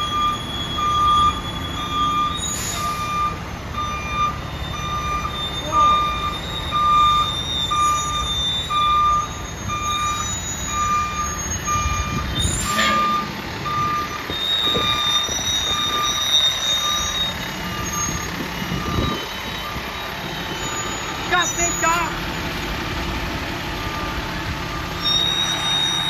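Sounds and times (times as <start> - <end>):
reversing alarm beeping: 0.0 - 22.6, 23.8 - 26.0
truck engine rumble: 0.0 - 26.0.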